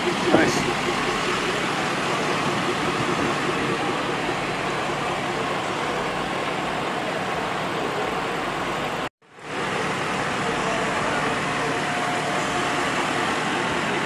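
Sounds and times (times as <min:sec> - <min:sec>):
motor vehicle engines running: 0:00.0 - 0:14.0.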